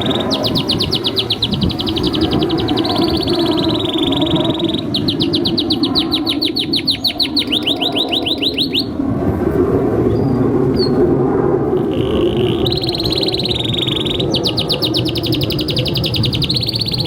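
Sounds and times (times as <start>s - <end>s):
canary singing a fast trill: 0.0s - 9.0s, 11.8s - 17.0s
low background rumble: 0.0s - 17.0s.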